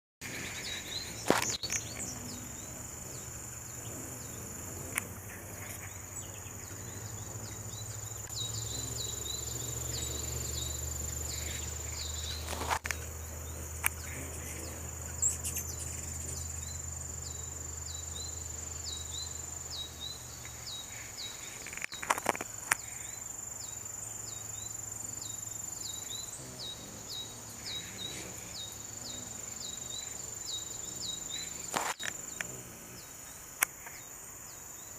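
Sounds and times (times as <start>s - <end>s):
insect chirping: 0.2s - 34.9s
insect trill: 0.2s - 34.9s.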